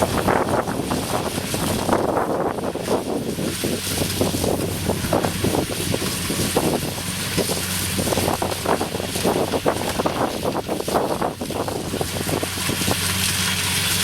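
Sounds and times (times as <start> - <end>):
combine harvester engine hum: 0.0 - 14.0
wind buffeting microphone: 0.0 - 14.0.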